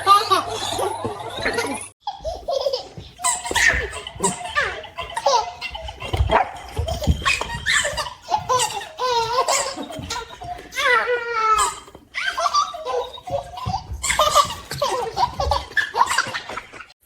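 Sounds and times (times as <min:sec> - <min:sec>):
baby giggling and laughing: 0:00.0 - 0:16.8.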